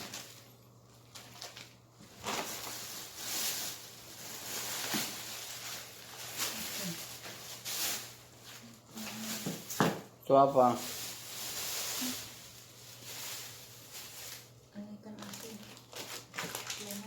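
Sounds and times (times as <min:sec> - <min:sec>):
plastic packaging crinkling: 0:00.0 - 0:09.8, 0:10.4 - 0:17.0.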